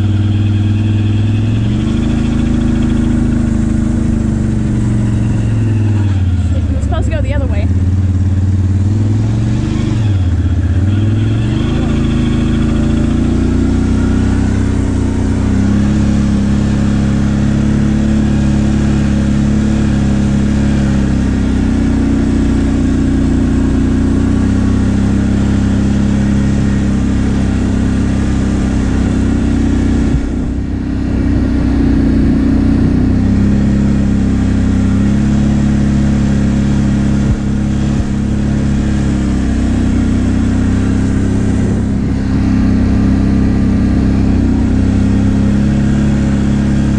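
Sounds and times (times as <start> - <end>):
atv engine revving high: 0.0 - 46.9.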